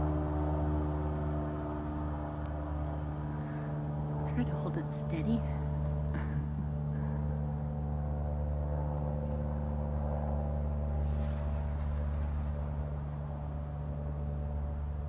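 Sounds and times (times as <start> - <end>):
aircraft droning overhead: 0.0 - 15.0.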